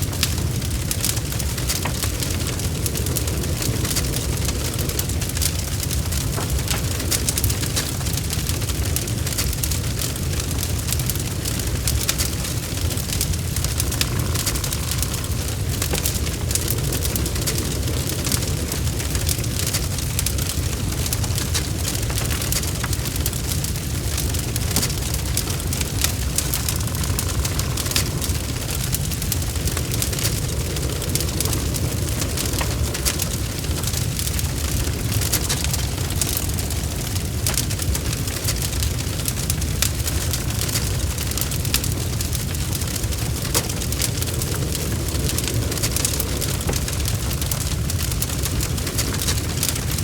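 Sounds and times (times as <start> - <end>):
fireplace fire crackling: 0.0 - 50.0.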